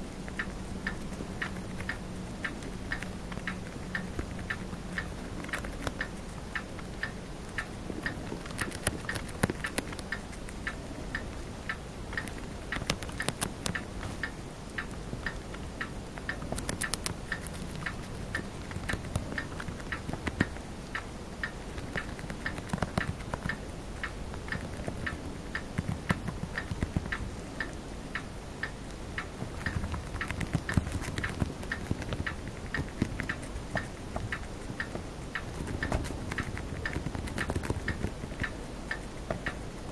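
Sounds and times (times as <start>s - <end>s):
hamster chewing a leaf: 0.0s - 39.9s.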